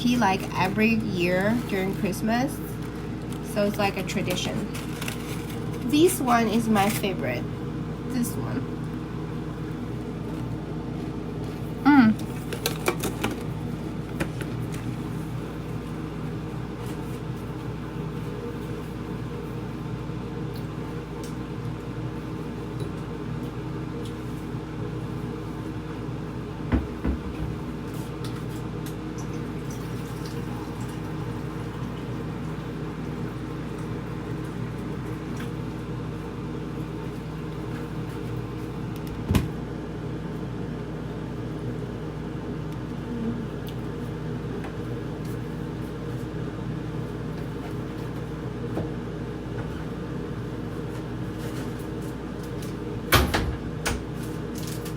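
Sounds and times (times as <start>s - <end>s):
kitchen appliance humming: 0.0s - 54.9s.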